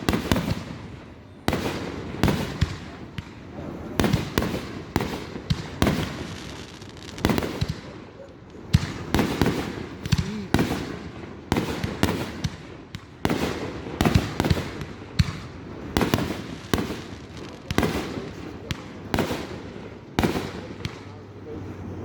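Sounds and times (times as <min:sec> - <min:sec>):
fireworks bangs with crackling: 0:00.0 - 0:22.0.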